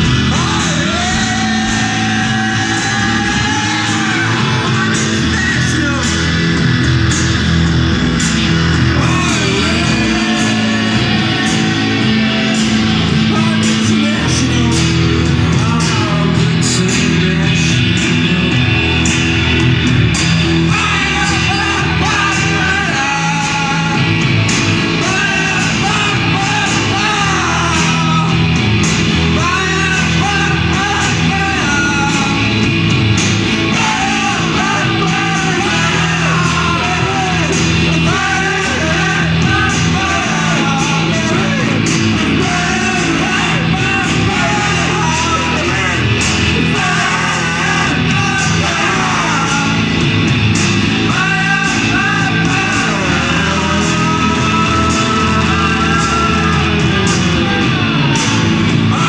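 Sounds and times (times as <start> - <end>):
bass guitar: 0.0 - 59.0
electric guitar: 0.0 - 59.0
pop band playing live: 0.0 - 59.0
steady drum beat: 0.0 - 59.0
voices singing: 0.0 - 59.0.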